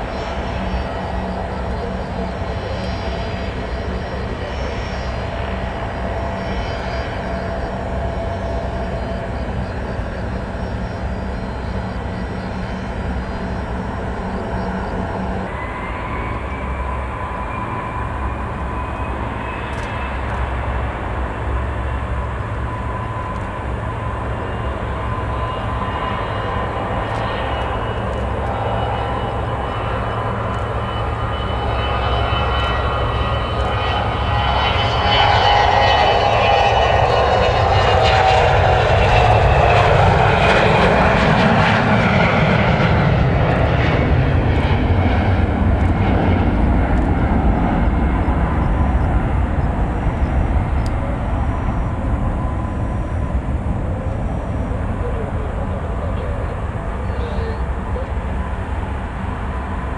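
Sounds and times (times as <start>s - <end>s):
jet engines idling while taxiing: 0.0s - 59.9s
jet whine rising in pitch: 0.0s - 59.9s.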